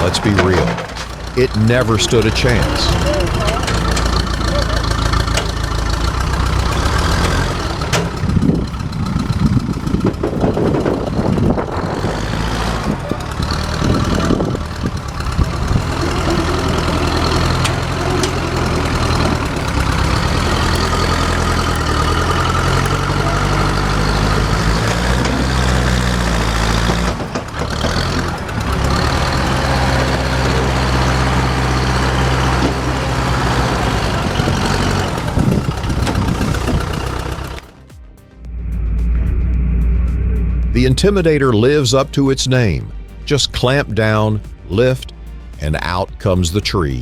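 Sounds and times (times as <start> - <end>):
diesel engine under load: 0.0 - 47.0.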